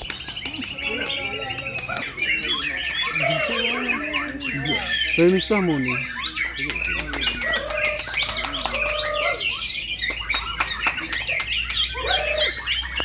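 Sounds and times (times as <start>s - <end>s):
birds singing whistles and trills: 0.0s - 13.0s.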